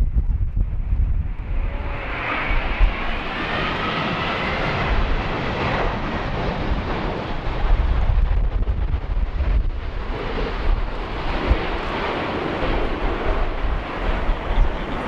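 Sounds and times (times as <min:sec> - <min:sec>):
wind buffeting microphone: 0:00.0 - 0:15.0
high engine whine: 0:00.1 - 0:15.0
jet airliner engines roaring: 0:00.1 - 0:15.0.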